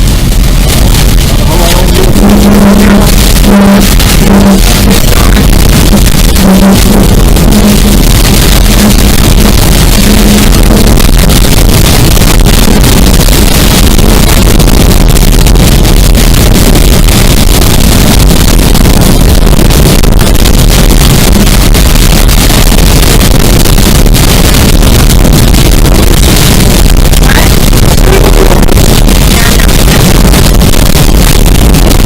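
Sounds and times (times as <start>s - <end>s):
wind noise on microphone: 0.0s - 32.0s.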